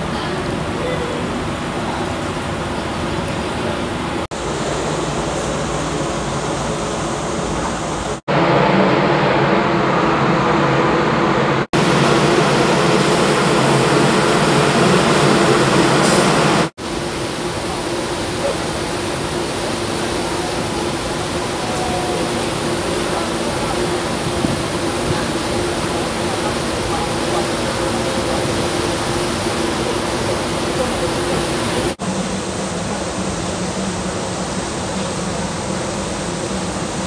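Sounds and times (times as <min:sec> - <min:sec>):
wind and water rushing: 0:00.0 - 0:37.0.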